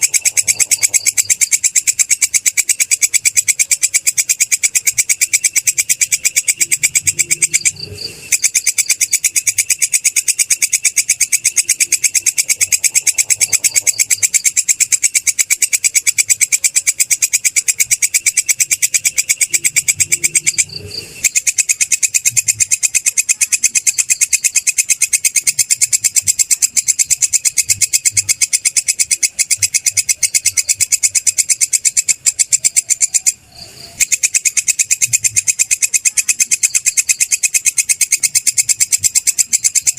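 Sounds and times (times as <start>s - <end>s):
insect chirping pulses: 0.0s - 39.9s.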